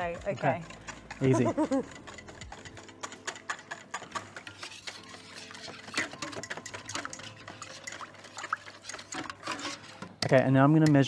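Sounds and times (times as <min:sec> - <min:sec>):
whisk clicking in a metal bowl: 0:00.0 - 0:11.0.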